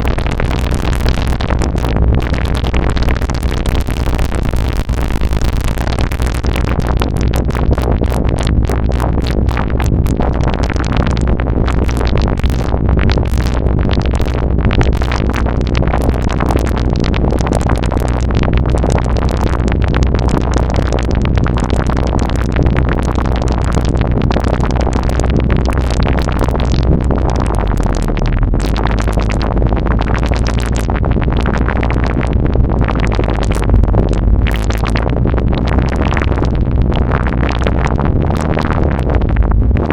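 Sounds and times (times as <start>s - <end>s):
steady low hum: 0.0s - 39.9s
synthesized liquid blips and clicks: 0.0s - 39.9s.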